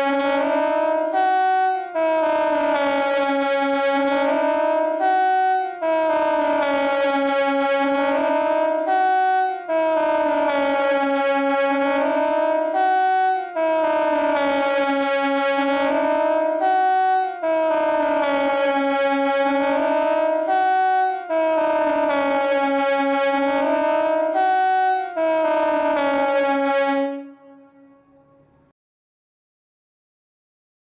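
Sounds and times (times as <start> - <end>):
siren wailing: 0.0 - 28.7.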